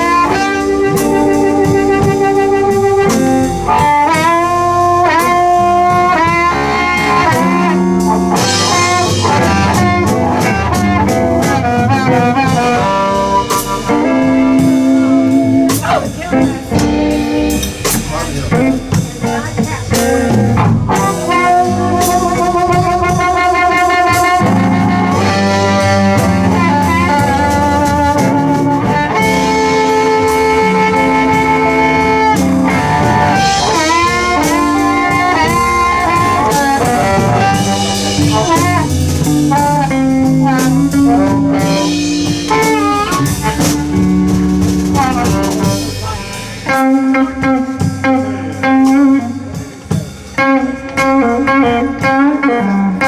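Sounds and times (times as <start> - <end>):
bass: 0.0 - 53.0
bent blues lead notes: 0.0 - 53.0
electric guitar: 0.0 - 53.0
steady drum beat: 0.0 - 53.0.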